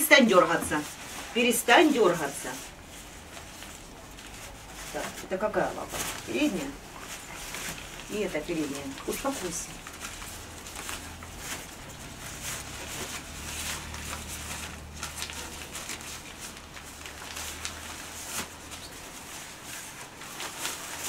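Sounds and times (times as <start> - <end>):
raincoat rustling and crinkling: 0.0 - 21.0
scuffs and scrapes of handling: 0.1 - 21.0.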